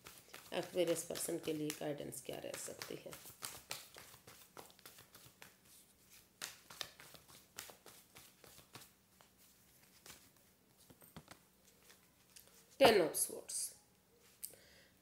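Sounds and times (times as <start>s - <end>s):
cards being shuffled: 0.0s - 12.9s.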